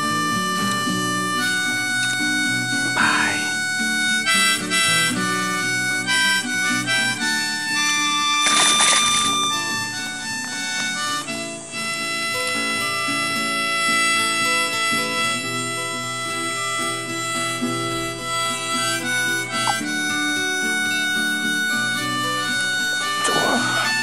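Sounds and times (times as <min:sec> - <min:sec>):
harmonica melody: 0:00.0 - 0:24.0
instrumental accompaniment: 0:00.0 - 0:24.0.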